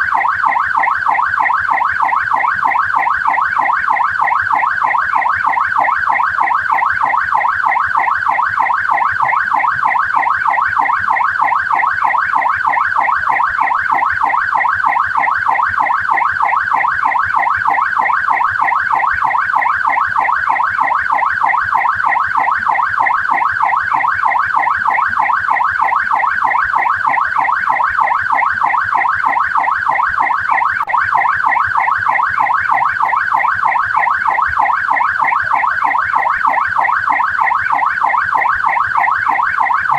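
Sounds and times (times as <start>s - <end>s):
police siren warbling: 0.0s - 39.9s.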